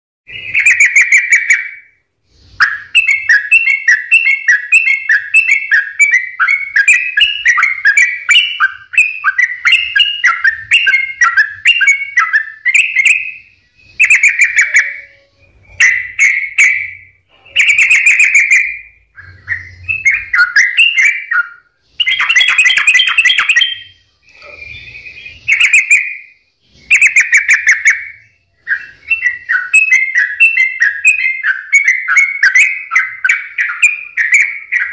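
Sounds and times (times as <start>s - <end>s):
bird singing bubbly chirps: 0.3s - 34.9s.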